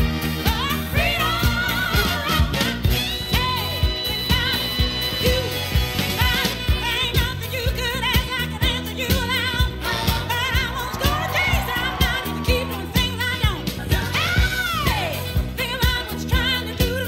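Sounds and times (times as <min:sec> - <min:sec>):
steady drum beat: 0:00.0 - 0:17.0.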